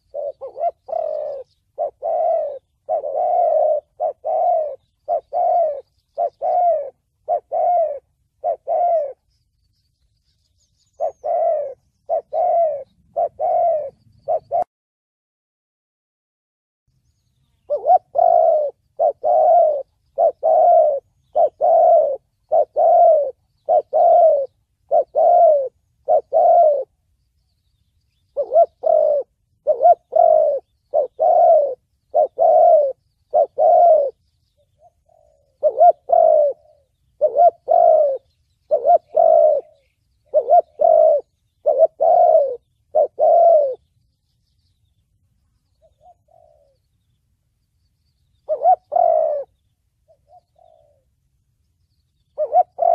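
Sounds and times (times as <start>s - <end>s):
dove cooing: 0.0s - 9.3s, 10.5s - 14.7s, 17.6s - 27.0s, 28.1s - 43.9s, 45.6s - 47.0s, 48.4s - 51.2s, 52.2s - 52.9s.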